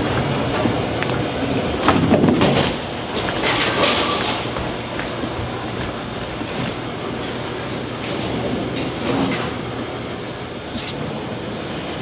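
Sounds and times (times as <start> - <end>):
bowling ball rolling: 0.0 - 11.0
bowling pins clatter: 0.0 - 11.2.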